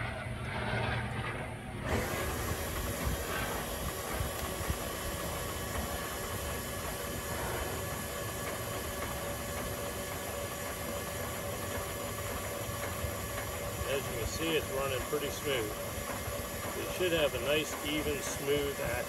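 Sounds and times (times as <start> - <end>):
electric motor humming: 1.8 - 19.0.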